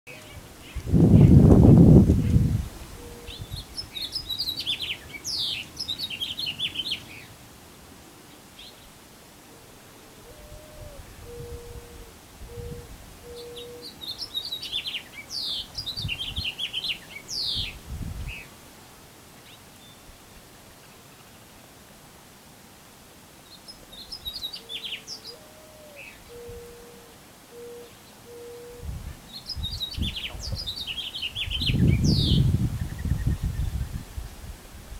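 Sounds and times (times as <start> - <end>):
songbird singing: 0.1 - 18.6, 19.3 - 21.8, 23.4 - 34.5.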